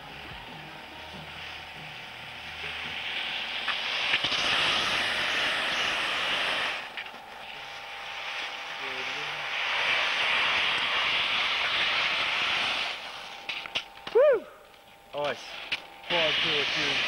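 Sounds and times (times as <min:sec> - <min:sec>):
skis hissing over snow: 0:00.0 - 0:13.7, 0:15.2 - 0:17.0.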